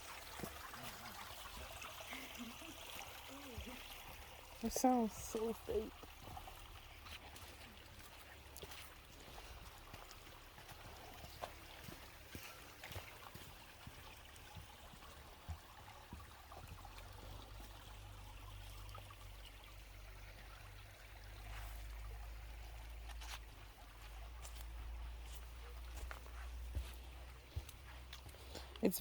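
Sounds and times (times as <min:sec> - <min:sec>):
creek trickling: 0:00.0 - 0:29.0.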